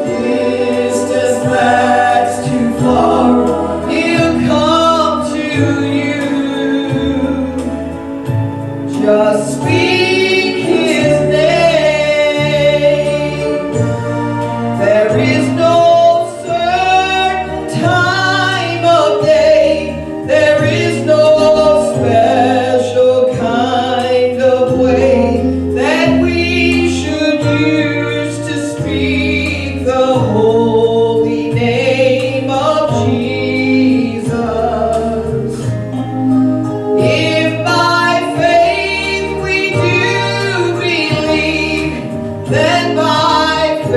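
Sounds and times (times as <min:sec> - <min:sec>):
bass line: 0:00.0 - 0:43.9
gospel singing: 0:00.0 - 0:43.9
instrumental accompaniment: 0:00.0 - 0:43.9.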